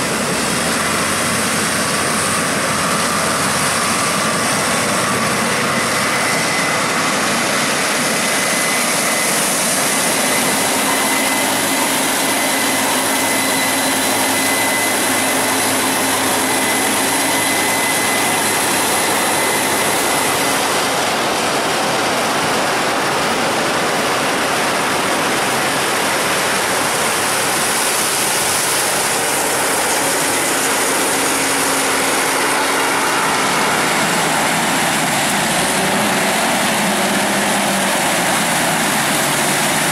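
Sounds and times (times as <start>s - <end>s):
combine harvester running: 0.0s - 39.9s
faint high whine: 0.0s - 39.9s.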